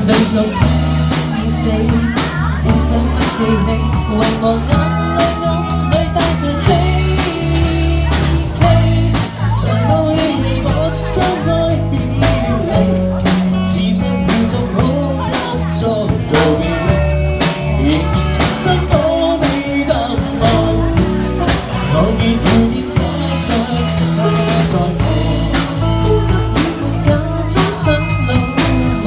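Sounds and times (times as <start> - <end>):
drums steady beat: 0.0 - 29.0
live pop band playing: 0.0 - 29.0
person singing: 0.0 - 29.0.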